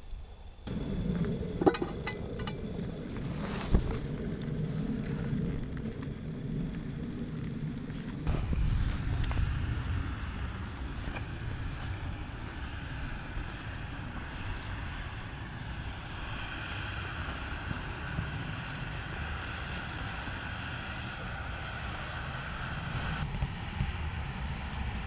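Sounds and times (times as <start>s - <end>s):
faint steady hiss: 0.0s - 25.0s
wind buffeting microphone: 0.6s - 25.0s.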